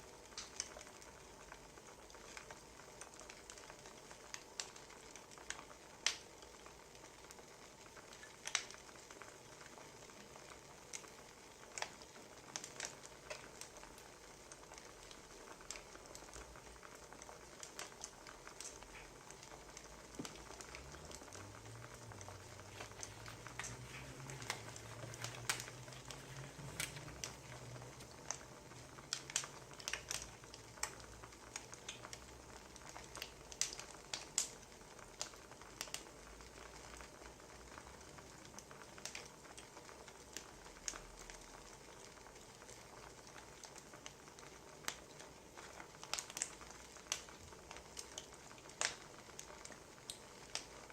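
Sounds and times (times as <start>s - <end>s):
soft hiss: 0.0s - 50.9s
wood fire crackling: 0.0s - 50.9s.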